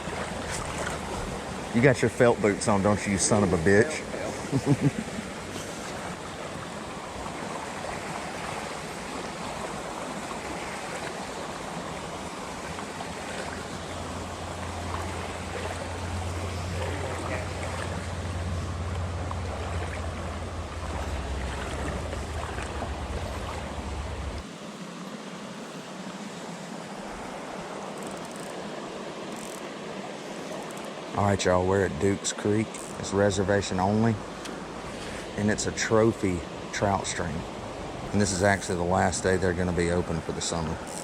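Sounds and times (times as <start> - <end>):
river water flowing over rocks: 0.0 - 41.0.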